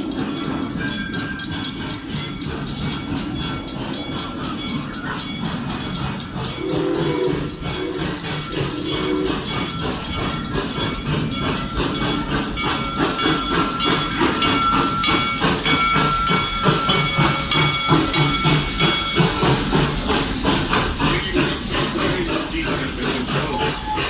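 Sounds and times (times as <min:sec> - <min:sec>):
hiss: 0:00.0 - 0:24.0
train passing with rhythmic beat: 0:00.0 - 0:24.0.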